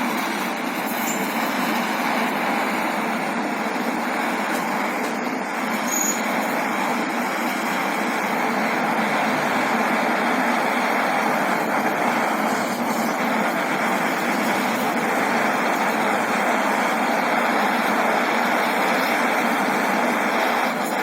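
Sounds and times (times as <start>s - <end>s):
gas torch burning: 0.0s - 21.0s.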